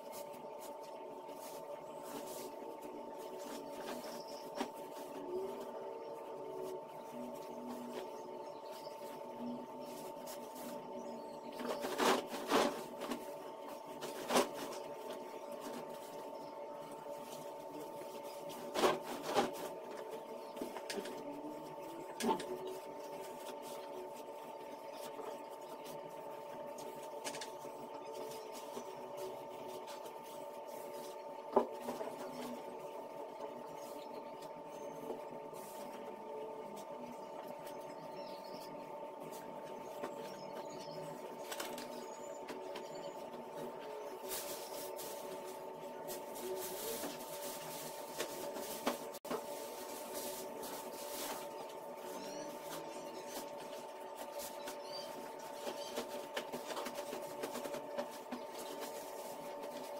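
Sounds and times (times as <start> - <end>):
mechanical hum with tones: 0.0 - 59.9.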